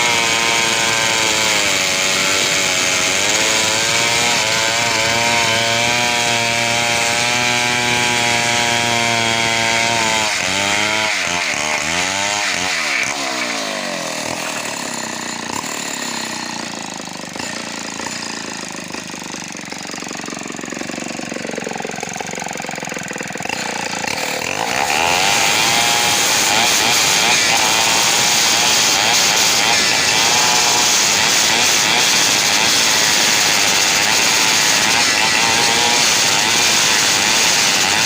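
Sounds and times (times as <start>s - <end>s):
chainsaw engine running: 0.0s - 38.0s.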